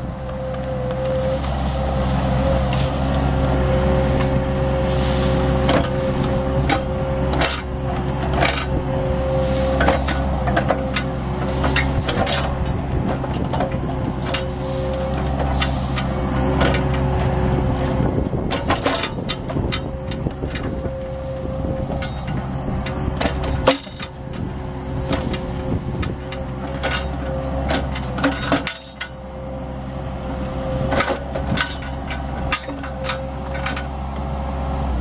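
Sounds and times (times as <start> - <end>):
excavator diesel engine running: 0.0 - 35.0
steady whine: 0.0 - 35.0
metal clanks and knocks: 2.6 - 8.8, 9.4 - 29.2, 30.8 - 34.0.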